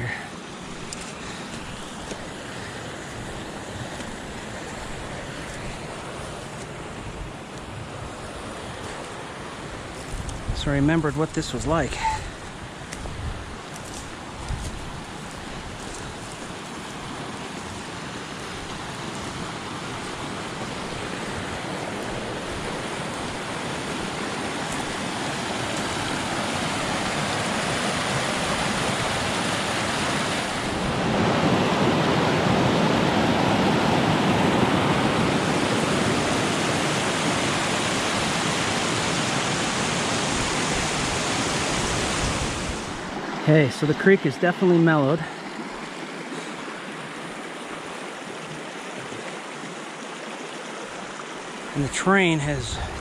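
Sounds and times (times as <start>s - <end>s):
creek rushing over rocks: 0.0s - 53.0s.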